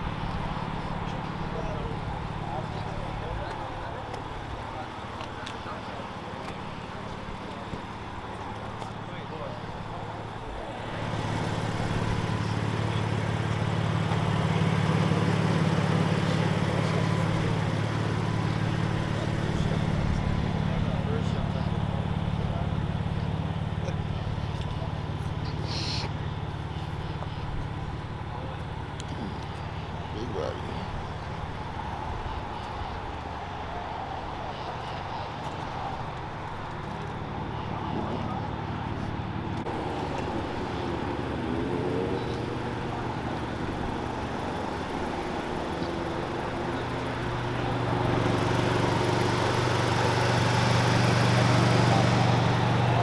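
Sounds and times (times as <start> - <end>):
car engine humming: 0.0 - 53.0.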